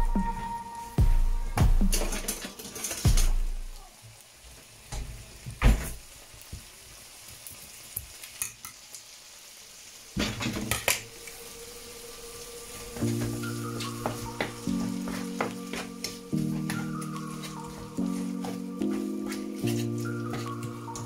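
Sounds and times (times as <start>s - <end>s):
food sizzling in a frying pan: 0.7s - 21.0s.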